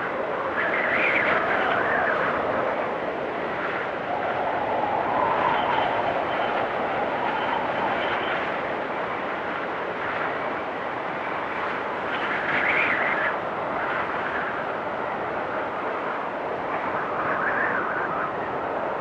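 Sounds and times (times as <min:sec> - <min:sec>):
strong wind rushing and whistling: 0:00.0 - 0:19.0.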